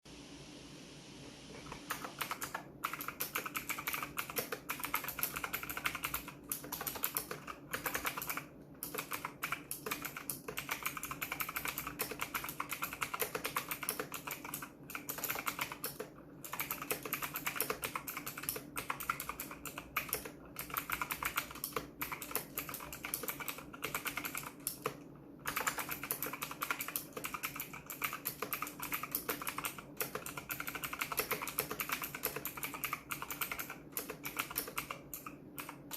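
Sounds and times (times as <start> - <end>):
mechanical keyboard typing: 1.7 - 35.9.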